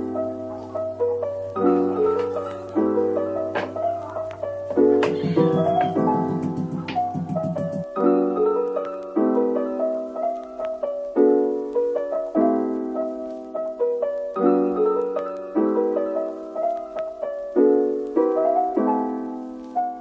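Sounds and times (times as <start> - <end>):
gentle solo piano piece: 0.0 - 20.0.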